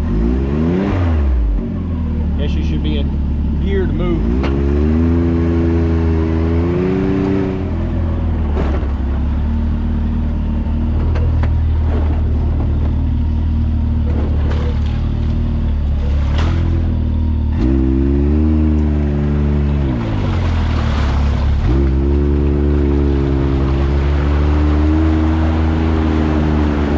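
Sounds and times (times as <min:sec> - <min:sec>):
off-road vehicle engine revving: 0:00.0 - 0:26.9.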